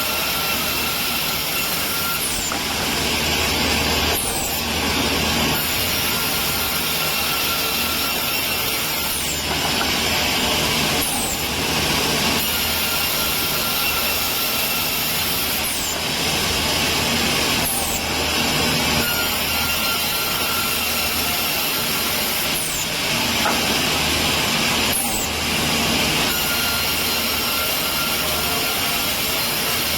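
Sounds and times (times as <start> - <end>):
woodworking machine hum: 0.0 - 29.9.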